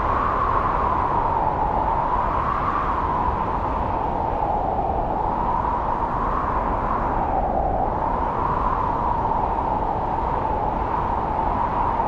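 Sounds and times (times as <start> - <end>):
strong wind through forest: 0.0 - 12.0.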